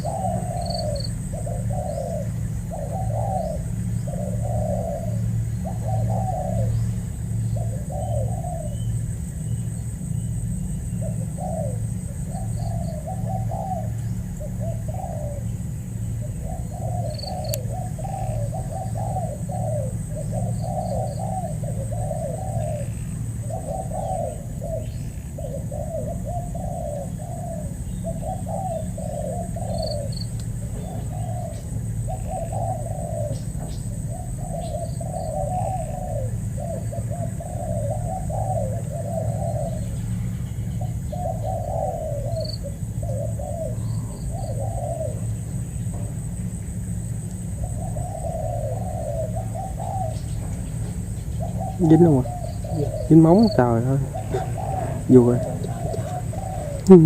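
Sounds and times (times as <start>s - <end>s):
doves cooing: 0.0s - 57.0s
steady low hum: 0.0s - 57.0s.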